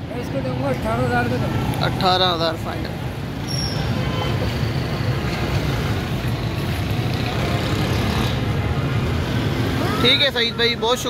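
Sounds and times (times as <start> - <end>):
road traffic engine rumble: 0.0 - 11.0.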